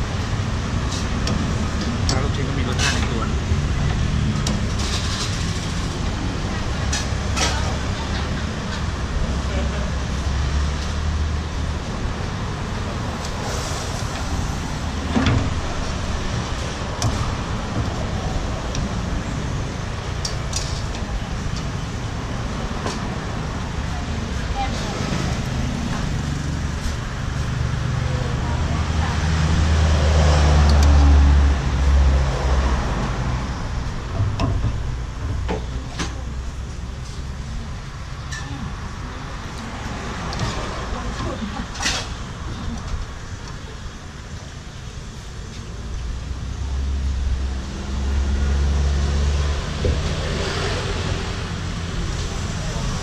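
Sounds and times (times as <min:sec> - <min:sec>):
road traffic rumble: 0:00.0 - 0:53.0
vehicle engine: 0:00.0 - 0:53.0.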